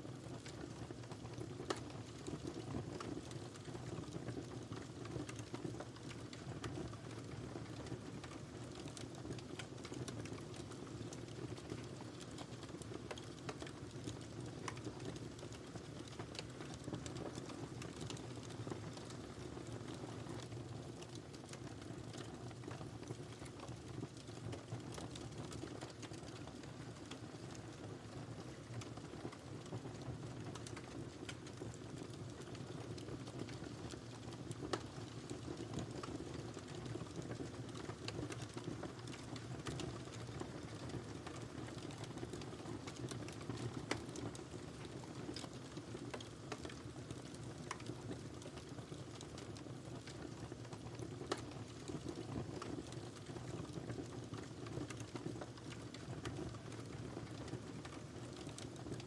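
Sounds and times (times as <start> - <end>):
fire crackles and pops: 0.0 - 59.0.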